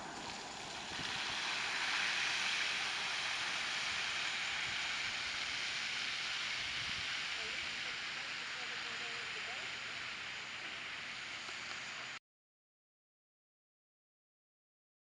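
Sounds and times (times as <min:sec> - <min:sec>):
running water rushing: 0:00.0 - 0:12.2.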